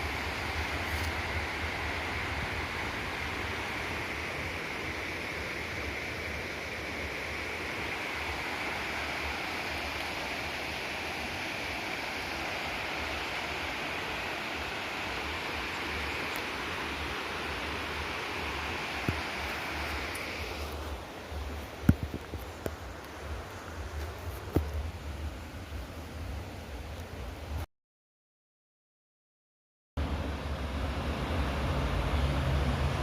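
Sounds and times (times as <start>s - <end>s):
river and waterfall rushing: 0.0s - 27.4s, 30.0s - 33.0s.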